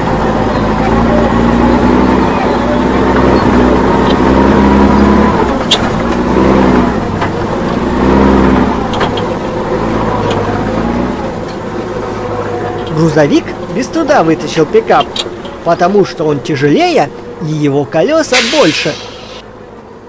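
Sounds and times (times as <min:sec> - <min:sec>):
heavy truck engine revving: 0:00.0 - 0:15.6, 0:18.4 - 0:19.5.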